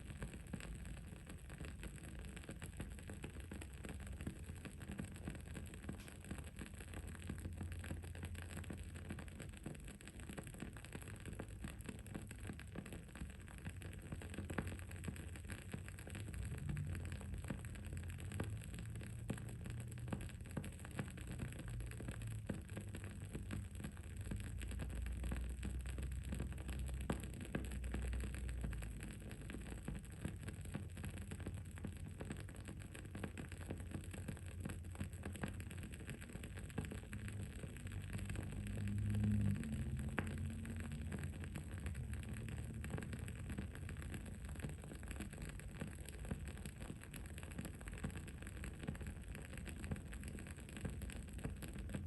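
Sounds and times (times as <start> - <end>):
low background rumble: 0.0 - 52.0.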